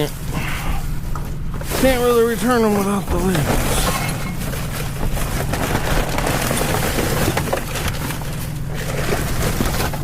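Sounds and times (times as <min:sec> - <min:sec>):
plastic trash bags rustling: 0:00.0 - 0:10.0.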